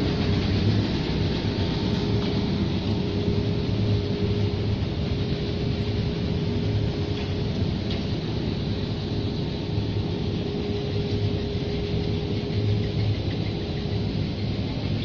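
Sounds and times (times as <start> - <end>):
machine drone: 0.0 - 15.0.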